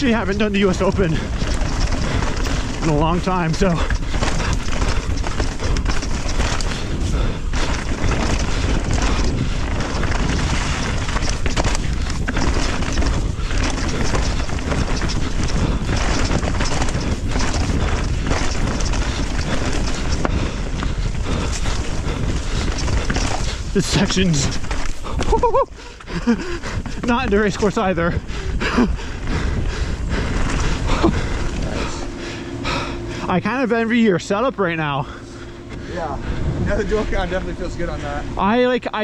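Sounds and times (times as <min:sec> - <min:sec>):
bike knocking and rattling: 0:00.0 - 0:39.0
bike tyres rolling on dirt: 0:00.0 - 0:39.0
wind buffeting microphone: 0:00.0 - 0:39.0.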